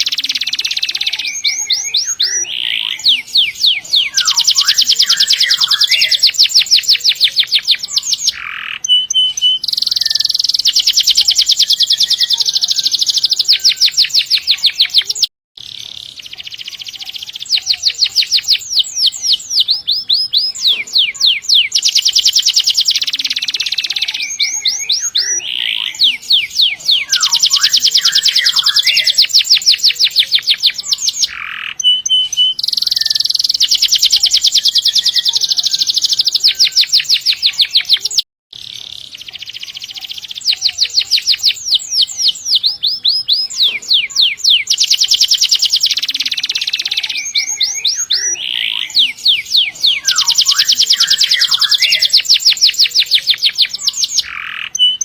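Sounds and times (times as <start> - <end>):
canary singing rapid trills: 0.0 - 55.0.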